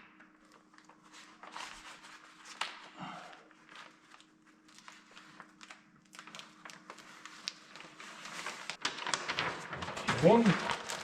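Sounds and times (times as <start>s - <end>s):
vinyl sheet rustling and crinkling: 0.0s - 11.0s.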